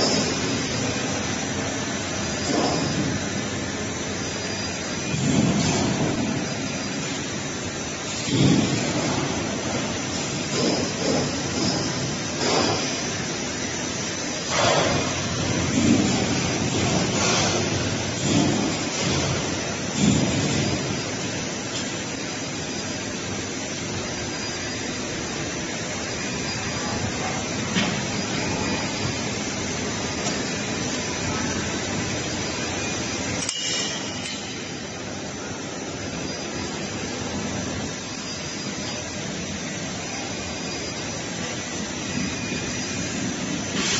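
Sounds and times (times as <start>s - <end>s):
hissing factory machinery: 0.0s - 43.9s.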